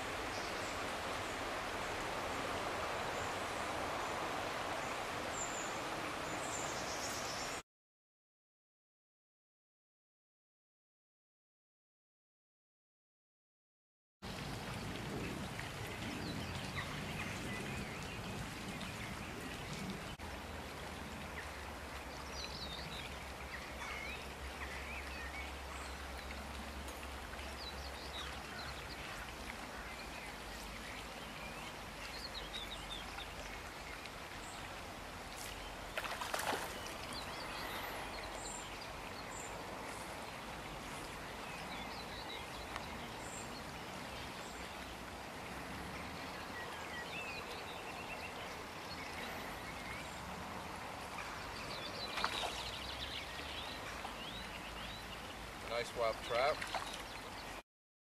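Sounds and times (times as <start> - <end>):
stream water running: 0.0 - 7.6, 14.2 - 57.6.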